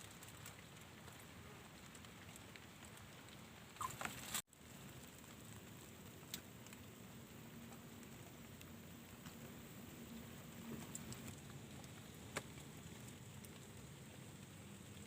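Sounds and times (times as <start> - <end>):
rain patter: 0.0 - 15.0.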